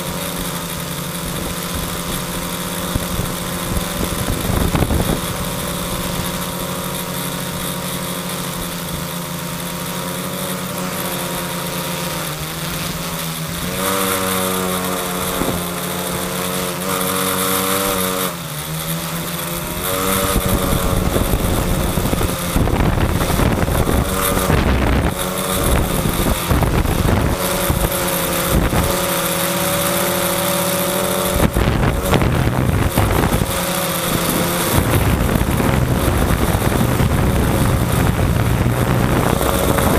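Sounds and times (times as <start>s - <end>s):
drone motors humming: 0.0s - 39.9s
wind buffeting microphone: 0.3s - 9.2s, 11.2s - 18.0s, 19.4s - 39.9s.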